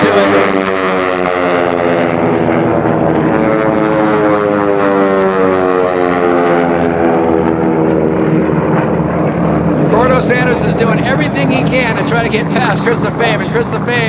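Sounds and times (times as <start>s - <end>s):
propeller planes passing: 0.0s - 14.0s.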